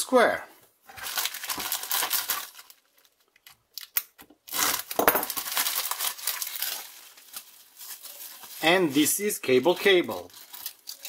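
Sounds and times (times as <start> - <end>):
bubble wrap crinkling: 0.9 - 11.0
plastic crinkling: 0.9 - 11.0
plastic envelope tearing open: 0.9 - 11.0.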